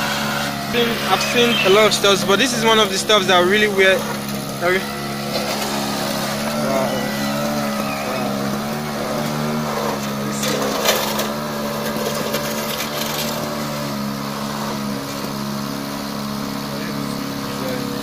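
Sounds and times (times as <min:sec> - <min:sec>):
bucket scraping gravel: 0:00.0 - 0:14.9
small engine running: 0:00.0 - 0:18.0.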